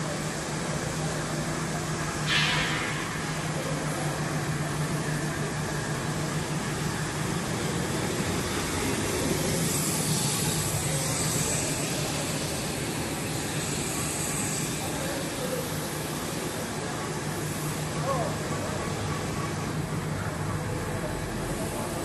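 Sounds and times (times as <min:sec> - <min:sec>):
cable production line drone: 0:00.0 - 0:22.0.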